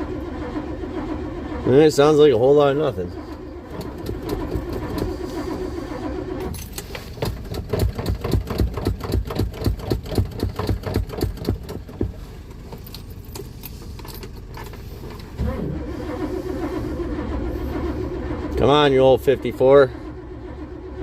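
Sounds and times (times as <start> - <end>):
starter cranking engine: 0.0 - 21.0.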